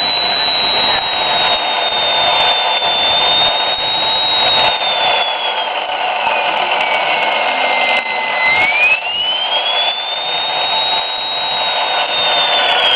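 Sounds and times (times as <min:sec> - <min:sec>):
turbine whine: 0:00.0 - 0:12.9.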